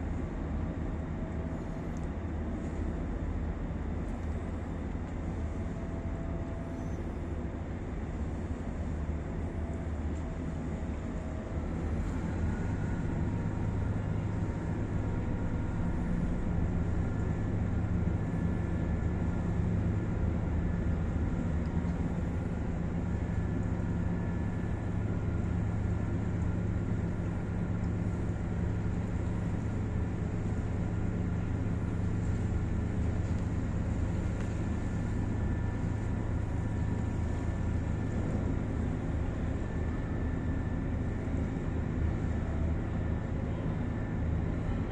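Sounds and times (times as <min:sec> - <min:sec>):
ship engines droning: 0:00.0 - 0:44.9.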